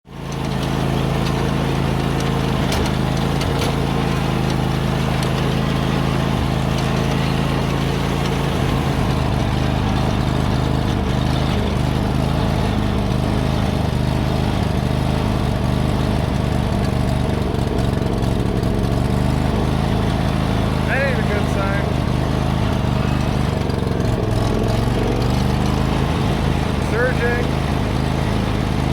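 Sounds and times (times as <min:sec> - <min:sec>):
lawn tractor engine running: 0:00.0 - 0:28.9.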